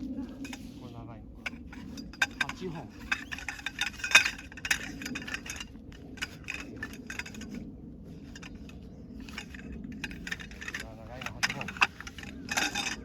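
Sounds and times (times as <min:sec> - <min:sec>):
metal tent pegs clinking: 0:00.2 - 0:13.0.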